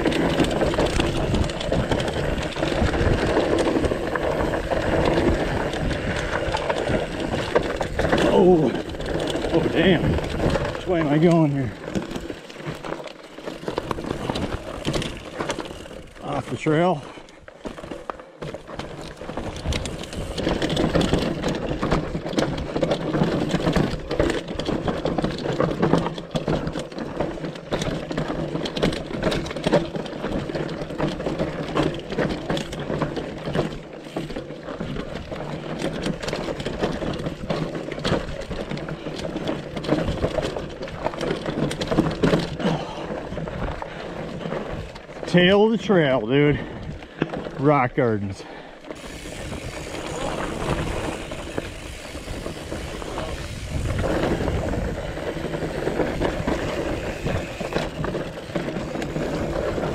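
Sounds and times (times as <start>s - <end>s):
bike knocks and rattles: 0.0s - 47.8s, 48.4s - 59.9s
bike tyres clattering on rock: 0.0s - 59.9s.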